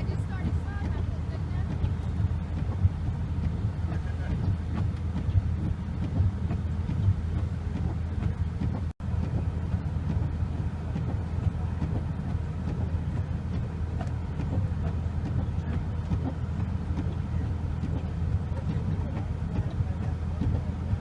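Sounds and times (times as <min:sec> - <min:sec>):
vehicle running low rumble: 0:00.0 - 0:21.0.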